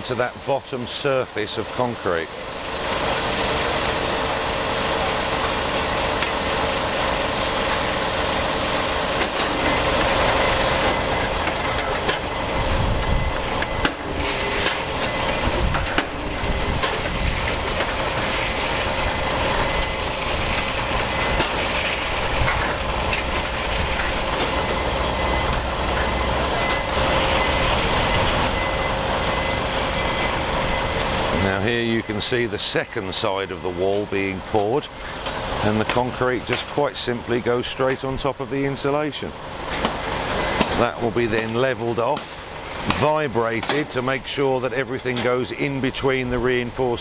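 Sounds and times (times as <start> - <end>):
machinery running: 0.0 - 47.0.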